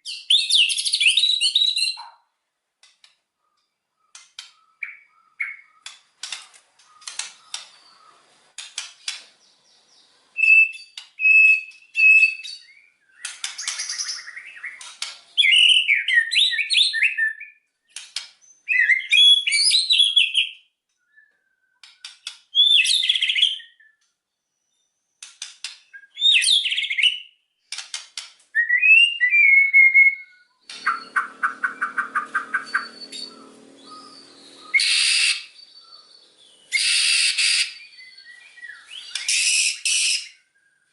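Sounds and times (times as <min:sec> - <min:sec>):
songbird singing and whistling: 0:00.0 - 0:02.1, 0:03.4 - 0:06.0, 0:09.4 - 0:17.7, 0:18.4 - 0:25.2, 0:25.9 - 0:27.4, 0:28.5 - 0:40.9.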